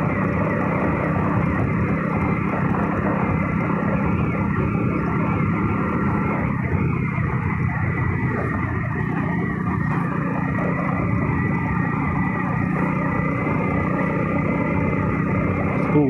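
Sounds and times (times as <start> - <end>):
wind rush: 0.0 - 15.8
motorbike engine drone: 0.0 - 16.0.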